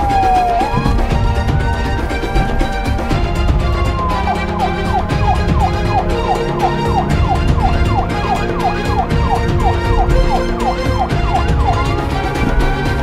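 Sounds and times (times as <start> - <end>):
background music: 0.0 - 13.0
police siren: 0.0 - 13.0.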